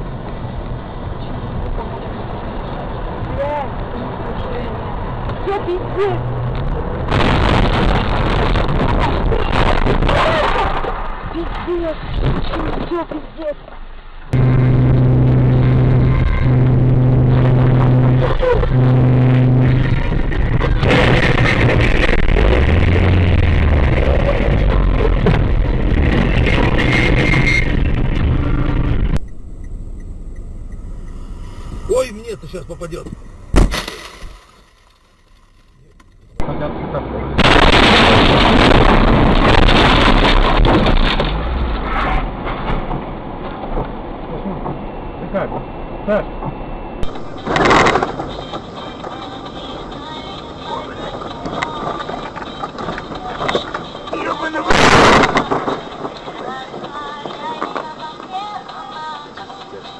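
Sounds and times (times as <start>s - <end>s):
moving vehicle rushing noise: 0.0s - 57.6s
car engine hum: 0.0s - 59.9s.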